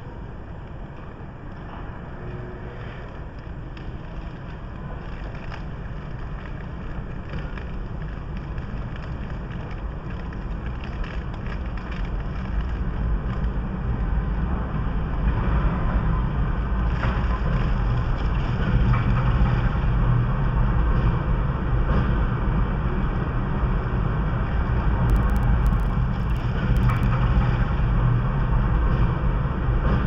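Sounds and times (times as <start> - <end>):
train wheels rumbling: 1.6 - 30.0.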